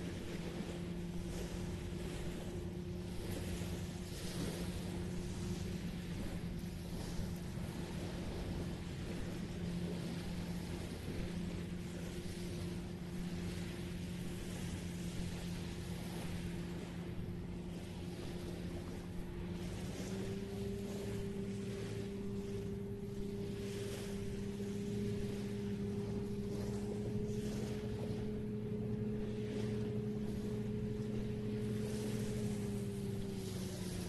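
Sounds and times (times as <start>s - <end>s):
gentle surf: 0.0s - 34.0s
motor hum: 0.0s - 34.0s.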